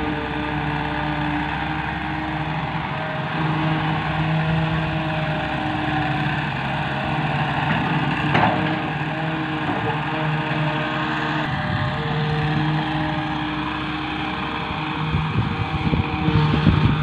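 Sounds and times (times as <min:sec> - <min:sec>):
excavator diesel engine running: 0:00.0 - 0:17.0
tractor engine running: 0:00.0 - 0:17.0.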